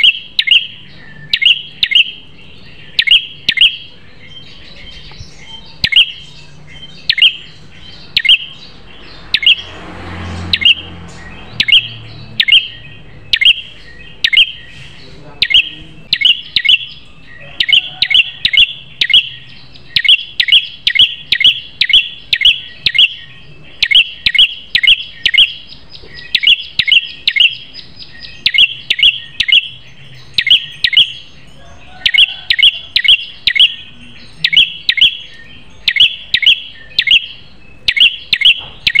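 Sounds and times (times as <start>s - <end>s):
bird chirping sharply: 0.0s - 39.0s.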